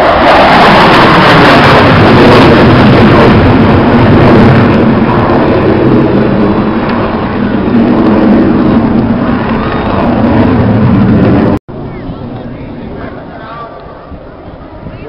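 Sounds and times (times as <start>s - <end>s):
jet flying past roaring: 0.0s - 15.0s.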